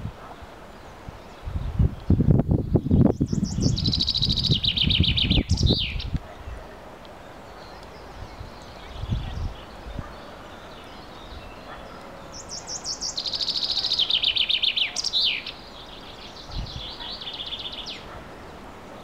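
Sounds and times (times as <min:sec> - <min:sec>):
songbird singing trills: 0:00.8 - 0:19.0.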